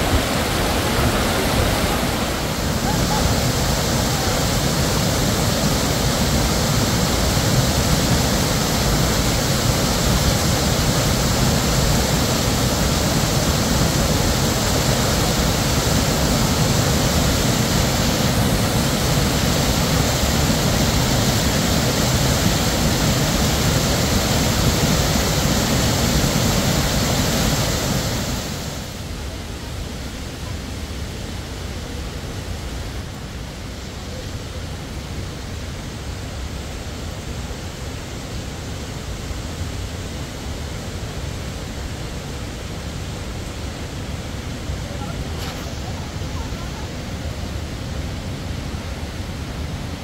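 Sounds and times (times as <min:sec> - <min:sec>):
stream rushing over rocks: 0:00.0 - 0:50.0.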